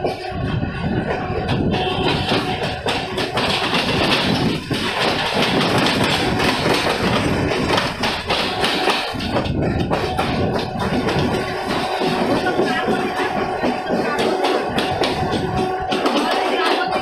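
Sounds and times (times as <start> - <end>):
train wheels and carriage noise: 0.0 - 17.0.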